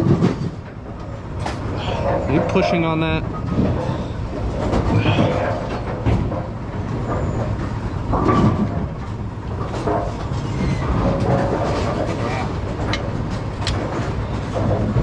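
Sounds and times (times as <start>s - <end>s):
machinery low rumble: 0.0s - 15.0s.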